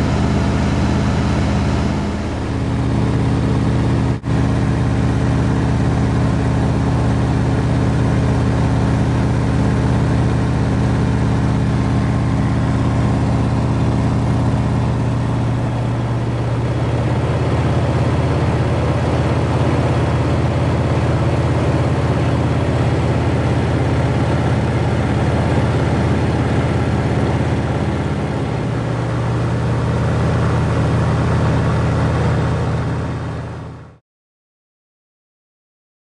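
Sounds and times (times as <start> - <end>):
airflow rushing: 0.0 - 33.3
radial engine and propeller droning: 0.0 - 34.0.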